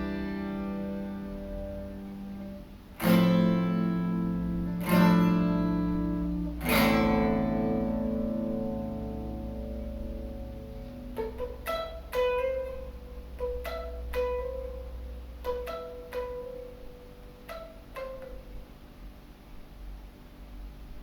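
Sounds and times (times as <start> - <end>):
acoustic guitar strummed chord: 0.0 - 18.5
acoustic guitar notes picked: 0.0 - 18.8.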